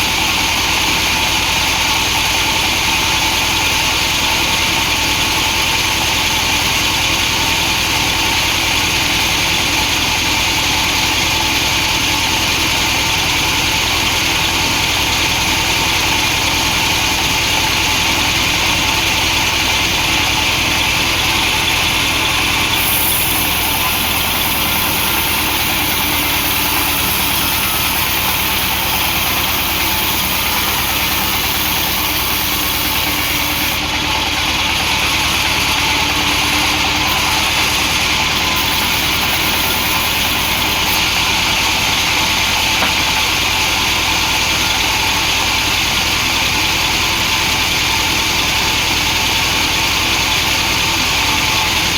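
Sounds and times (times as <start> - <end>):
chainsaw cutting a log: 0.0 - 51.9.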